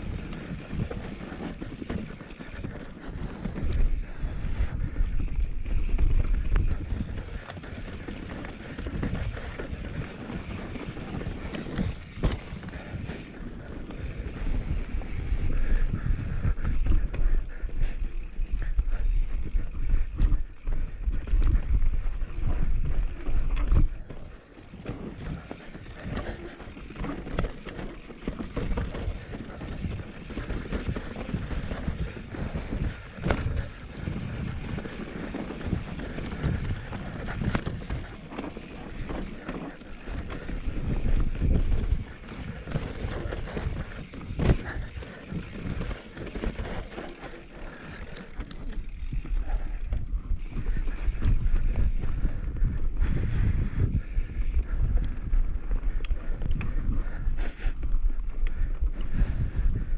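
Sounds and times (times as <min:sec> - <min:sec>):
tyres on dirt: 0:00.0 - 0:57.0
bike chain and parts rattling: 0:00.0 - 0:59.9
wind rumbling on microphone: 0:00.0 - 0:59.9.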